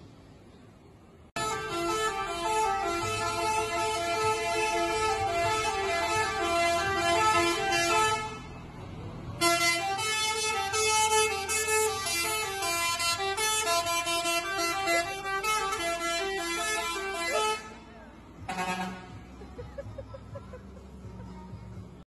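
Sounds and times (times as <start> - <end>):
low engine rumble: 0.0 - 22.0
truck musical air horn: 1.4 - 19.5.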